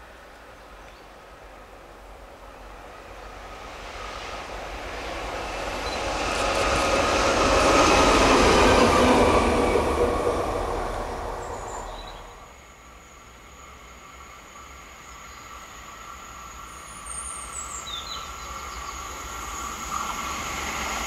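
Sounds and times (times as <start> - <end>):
train passing on rails: 0.0 - 21.0.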